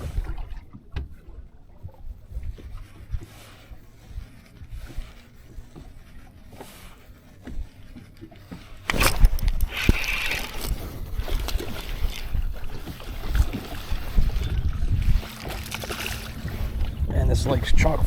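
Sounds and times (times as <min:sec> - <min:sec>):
fish splashing and thumping: 0:00.0 - 0:17.1.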